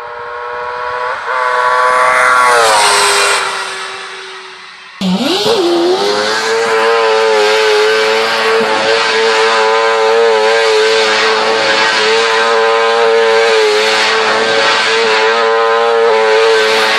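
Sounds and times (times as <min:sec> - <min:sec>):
car engine revving high: 0:00.0 - 0:16.9.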